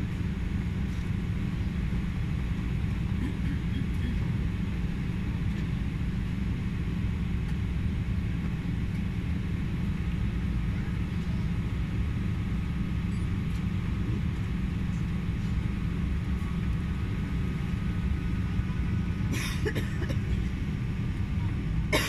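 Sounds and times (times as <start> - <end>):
aircraft cabin rumble: 0.0 - 22.0
jet engines idling whine: 0.0 - 22.0.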